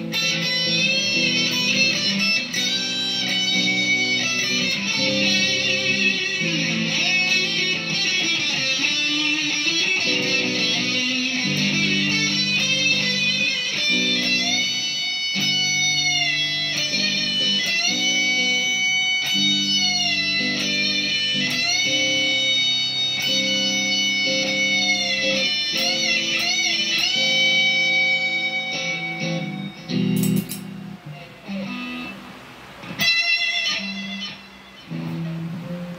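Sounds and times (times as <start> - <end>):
distorted electric guitar lead: 0.0 - 35.9.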